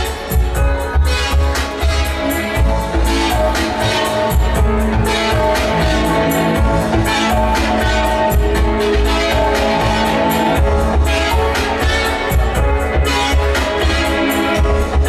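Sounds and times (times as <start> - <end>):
live band music through pa: 0.0 - 15.0.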